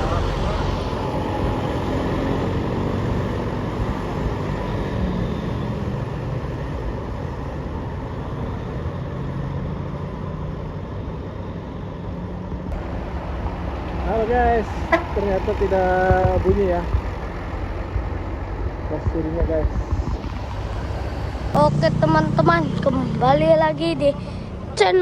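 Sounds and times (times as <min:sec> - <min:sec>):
bus engine running: 0:00.0 - 0:25.0
traffic noise: 0:00.0 - 0:25.0.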